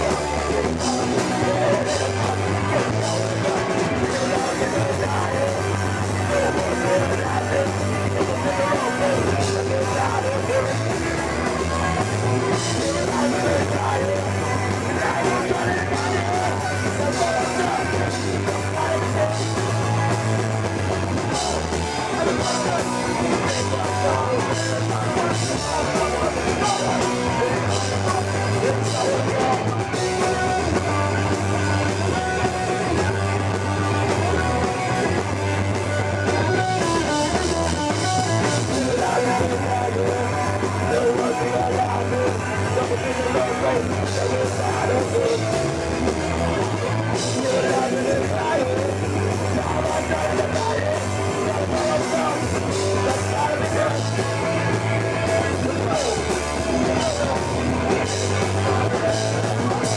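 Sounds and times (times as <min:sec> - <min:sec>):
bass guitar: 0:00.0 - 0:59.9
drum kit: 0:00.0 - 0:59.9
electric guitar: 0:00.0 - 0:59.9
person singing: 0:00.0 - 0:59.9.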